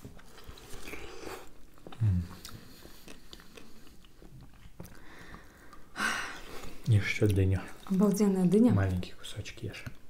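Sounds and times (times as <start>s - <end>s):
people chewing juicy melon: 0.0s - 10.0s.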